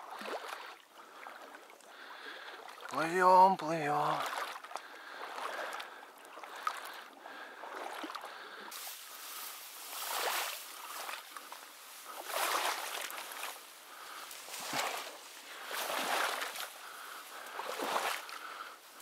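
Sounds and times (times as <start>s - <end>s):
boat swishing through reeds: 0.0s - 19.0s.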